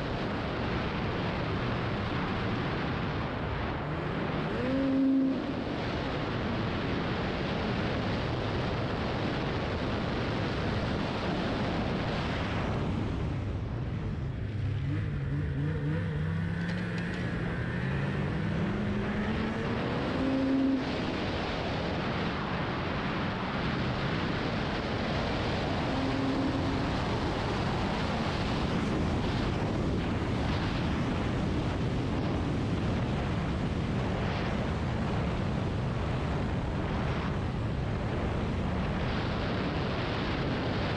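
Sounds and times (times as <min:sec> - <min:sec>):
snowmobile engine and track rushing: 0:00.0 - 0:40.9.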